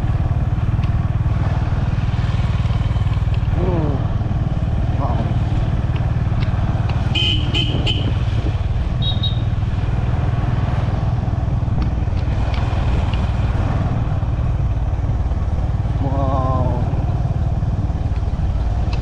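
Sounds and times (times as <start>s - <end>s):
motorcycle engine running: 0.0s - 19.0s
wind: 0.0s - 19.0s.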